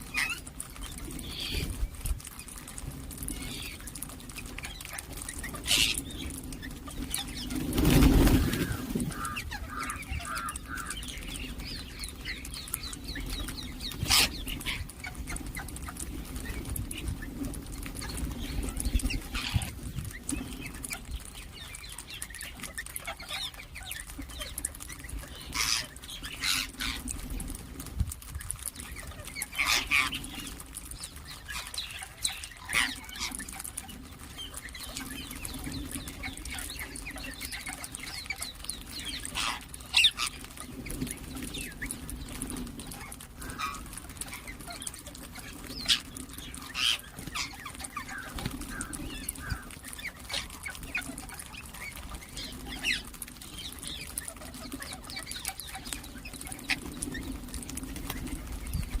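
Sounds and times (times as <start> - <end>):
parrots screeching and chirping: 0.1 - 16.6, 18.0 - 27.2, 28.1 - 42.2, 42.8 - 57.3.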